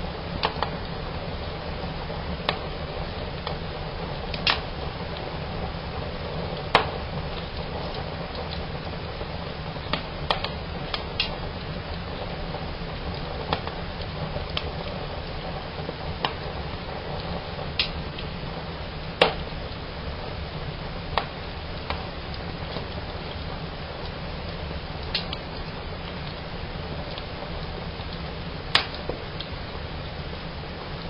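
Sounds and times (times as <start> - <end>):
fire cracks and snaps: 0.0 - 31.0
fire hissing: 0.0 - 31.0.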